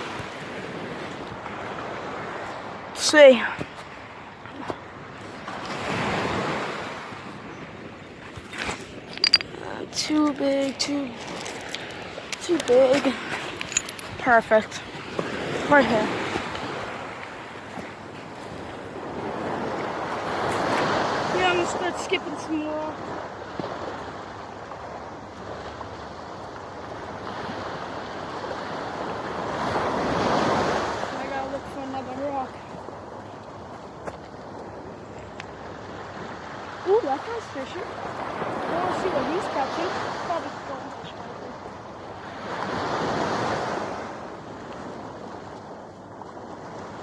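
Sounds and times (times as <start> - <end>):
small waves washing on shore: 0.0 - 47.0.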